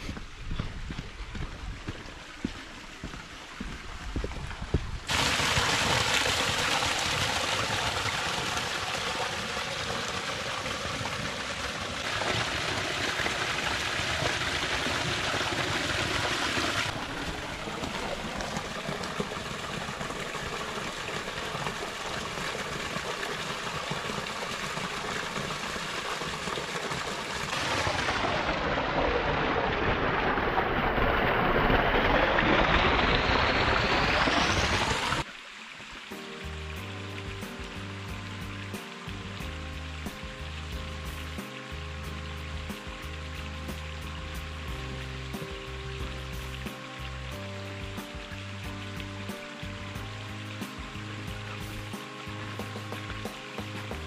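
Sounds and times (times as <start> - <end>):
creek splashing over rocks: 0.0 - 54.0
small cascade spilling down rocks: 1.8 - 54.0.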